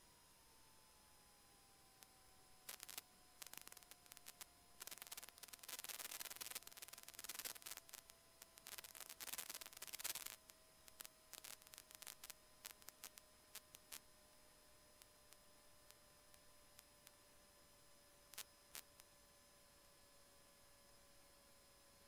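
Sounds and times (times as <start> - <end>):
faint steady hum: 0.0 - 22.0
crackling static: 1.7 - 22.0.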